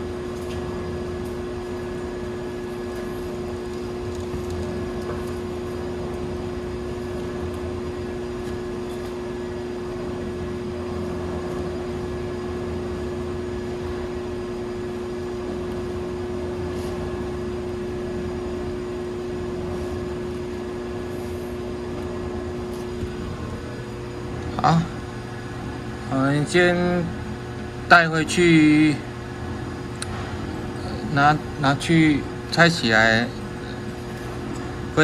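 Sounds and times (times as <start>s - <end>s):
air conditioner humming: 0.0s - 35.0s.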